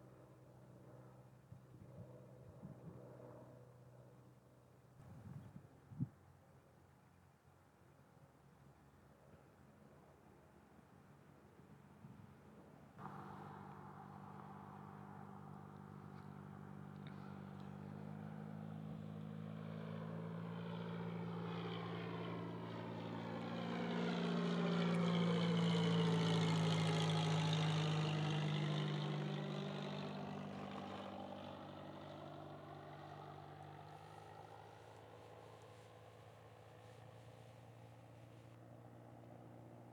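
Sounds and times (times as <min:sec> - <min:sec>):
aircraft flying over: 0:00.0 - 0:04.7, 0:12.5 - 0:39.9.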